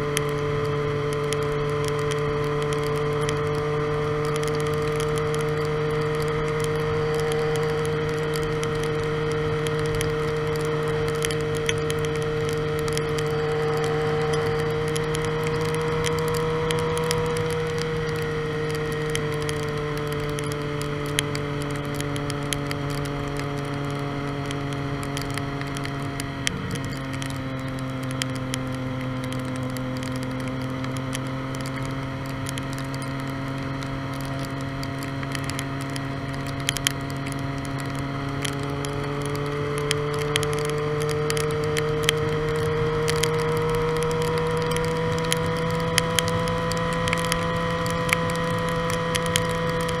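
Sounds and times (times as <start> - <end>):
motorcycle engine cruising: 0.0 - 50.0
raindrops ticking on camera: 0.0 - 50.0.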